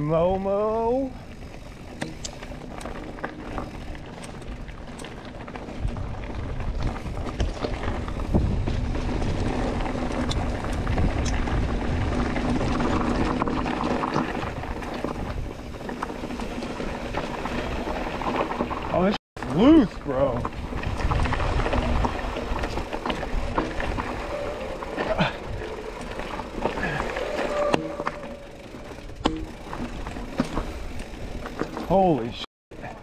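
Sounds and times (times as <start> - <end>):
bike rattling and clicking: 0.0 - 33.0
bike tyres rumbling on dirt: 0.0 - 33.0.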